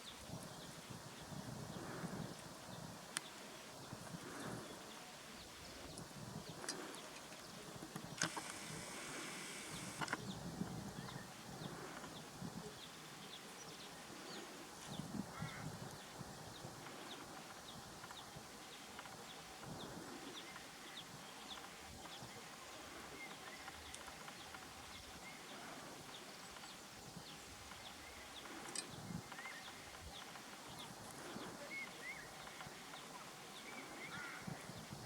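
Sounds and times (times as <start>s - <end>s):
background hiss: 0.0s - 35.0s
birds chirping: 0.0s - 35.0s.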